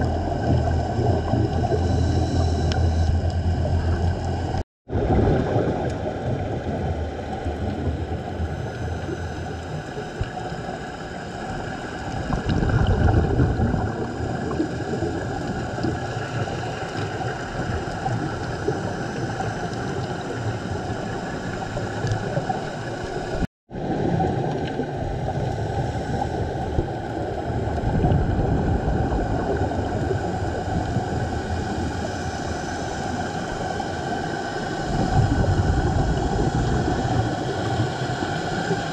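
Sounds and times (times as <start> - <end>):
underwater rumbling hiss: 0.0 - 38.9.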